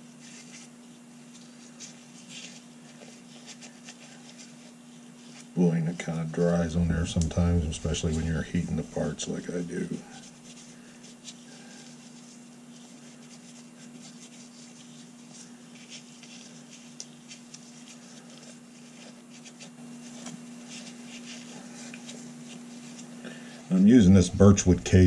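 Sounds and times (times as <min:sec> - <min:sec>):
low electrical hum: 0:00.0 - 0:25.0
steel wool scratchy rustle: 0:00.0 - 0:25.0.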